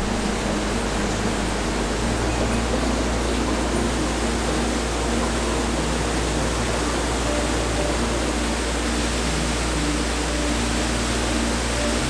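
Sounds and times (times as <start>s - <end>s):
waterfall rushing over rock: 0.0s - 12.0s.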